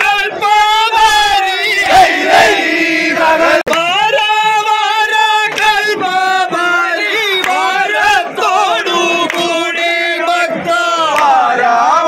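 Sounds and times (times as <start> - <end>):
men chanting loudly together: 0.0 - 12.0.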